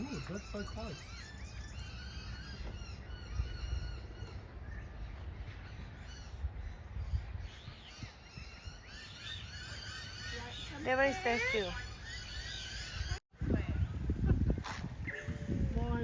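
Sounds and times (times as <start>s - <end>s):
birds chirping and squawking: 0.0s - 16.0s
wind rumble on microphone: 0.0s - 16.0s.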